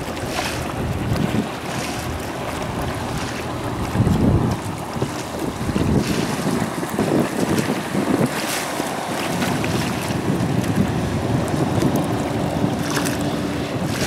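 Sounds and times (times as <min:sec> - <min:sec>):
personal watercraft engine passing: 0:00.0 - 0:14.0
rush of spray: 0:00.0 - 0:14.0
wind buffeting microphone: 0:00.0 - 0:14.0.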